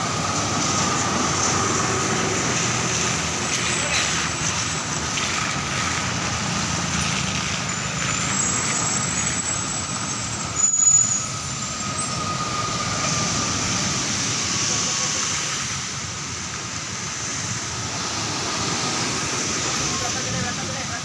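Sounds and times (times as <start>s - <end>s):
traffic passing on wet road: 0.0s - 21.0s.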